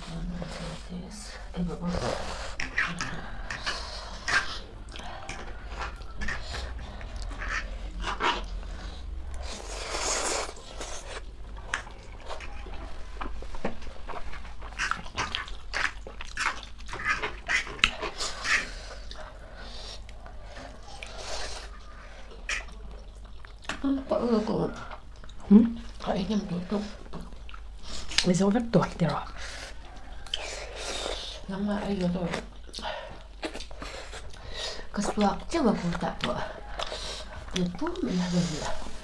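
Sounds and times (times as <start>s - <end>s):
chewing: 1.8s - 39.0s.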